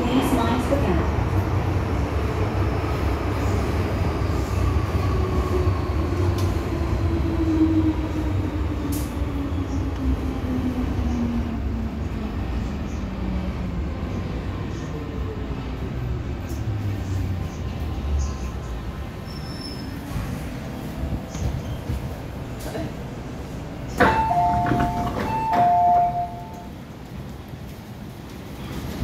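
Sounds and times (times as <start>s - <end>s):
underground train rumbling: 0.0s - 29.0s.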